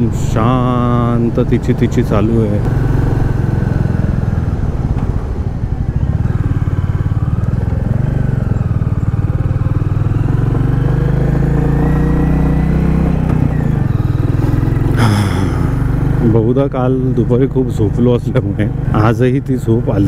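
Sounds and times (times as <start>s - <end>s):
motorcycle engine running: 2.2s - 20.0s.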